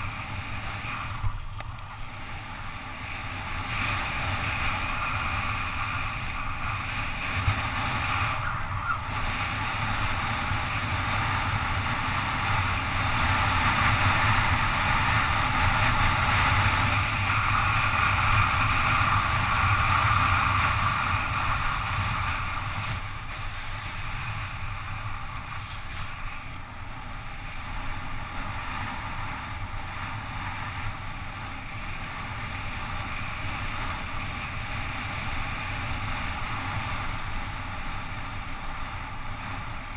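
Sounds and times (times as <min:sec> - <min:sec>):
tyre noise on asphalt: 0:00.0 - 0:39.9
wind rushing over camera: 0:00.0 - 0:39.9.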